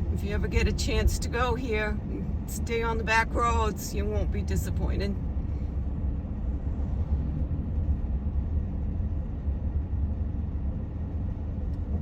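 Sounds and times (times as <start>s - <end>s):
engine and road noise in car: 0.0s - 12.0s.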